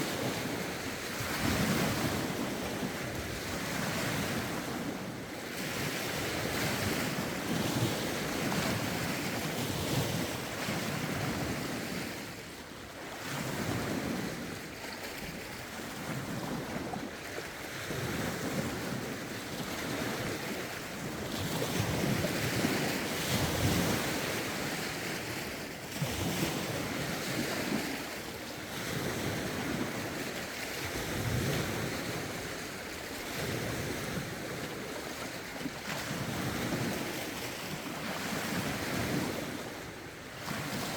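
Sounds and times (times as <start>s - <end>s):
lake waves washing in: 0.0s - 40.9s
wind noise on microphone: 0.0s - 40.9s.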